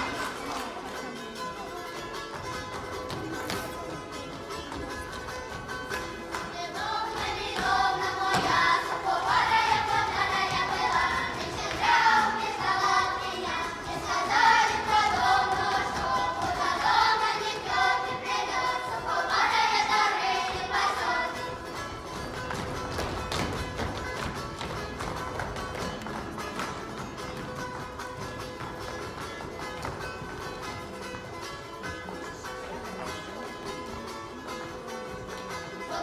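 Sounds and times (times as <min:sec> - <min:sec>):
children's ensemble singing folk song: 0:01.9 - 0:36.0.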